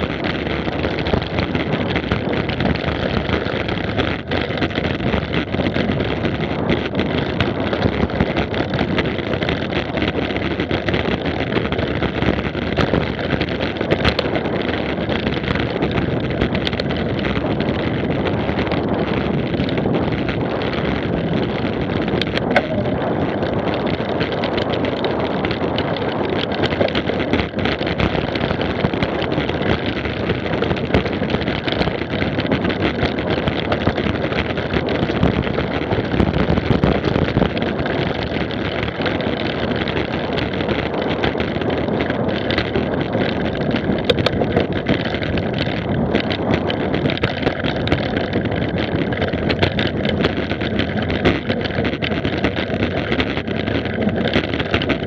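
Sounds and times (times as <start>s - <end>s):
bike clicks and rattles: 0.0s - 55.0s
bike tyre noise on gravel: 0.0s - 55.0s
wind on microphone: 0.0s - 55.0s.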